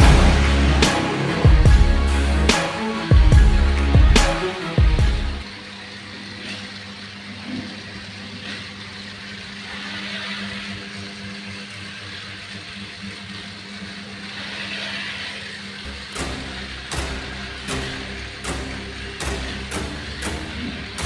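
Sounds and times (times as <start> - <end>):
toy truck motor whirring: 0.7 - 21.0.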